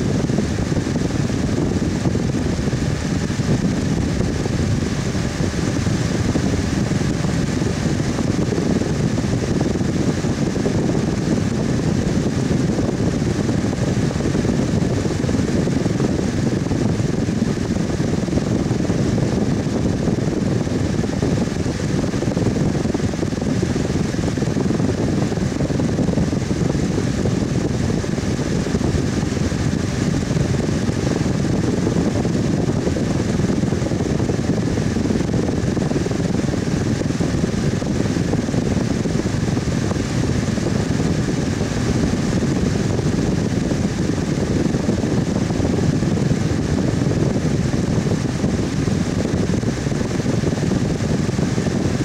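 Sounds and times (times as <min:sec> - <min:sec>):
electric fan humming: 0:00.0 - 0:52.0.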